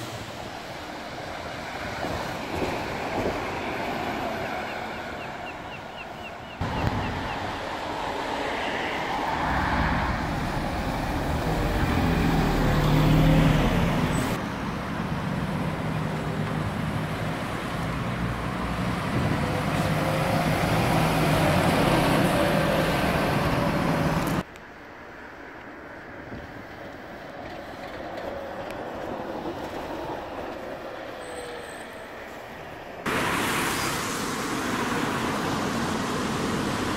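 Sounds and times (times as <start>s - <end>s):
buses driving past: 0.0s - 36.9s
tyre and traffic noise: 0.0s - 36.9s.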